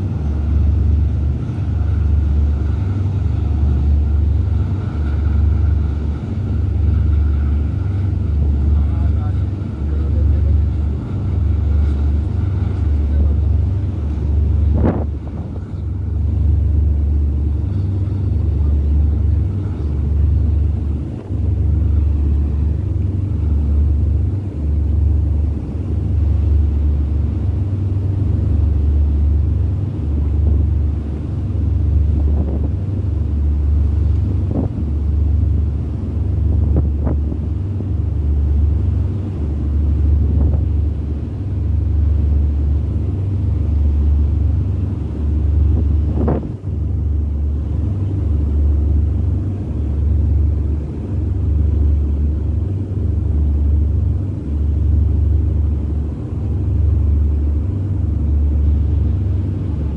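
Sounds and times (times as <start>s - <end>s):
ship engines droning: 0.0s - 59.9s
wind buffeting microphone: 0.0s - 59.9s.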